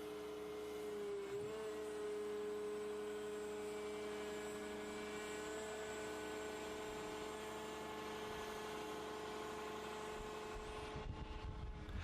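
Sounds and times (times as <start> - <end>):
excavator engine and hydraulics humming: 0.0 - 12.0.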